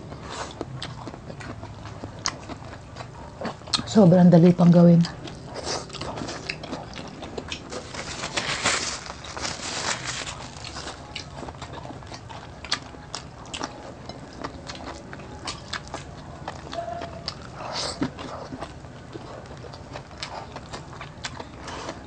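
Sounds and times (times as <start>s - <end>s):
people chewing food: 0.0s - 22.0s.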